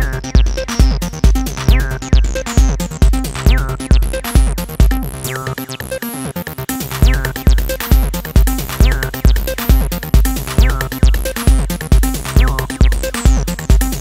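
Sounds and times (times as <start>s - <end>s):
drum-machine kick: 0.0s - 5.6s, 6.7s - 14.0s.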